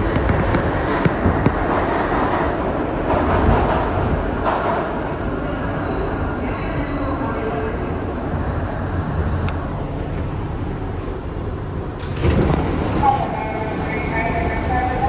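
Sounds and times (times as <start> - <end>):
subway car wheels rumbling: 0.0 - 15.0.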